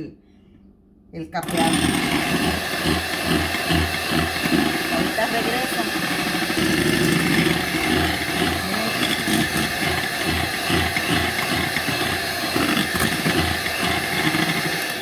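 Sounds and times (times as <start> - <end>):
electric mixer whipping: 1.4 - 15.0.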